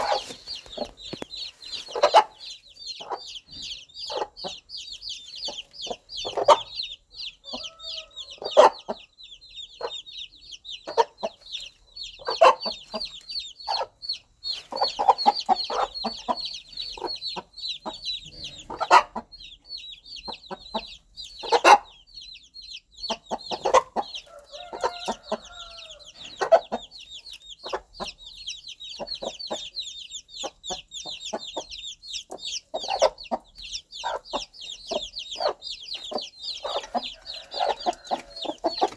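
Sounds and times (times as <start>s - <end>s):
baby chicks peeping: 0.0s - 38.9s
hen clucking: 0.0s - 38.9s.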